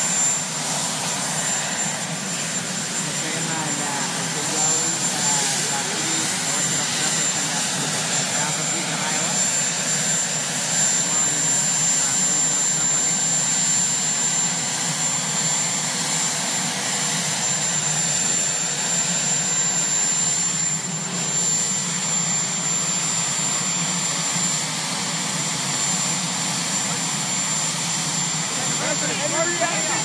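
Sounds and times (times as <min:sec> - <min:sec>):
helicopter turbine whine: 0:00.0 - 0:30.0.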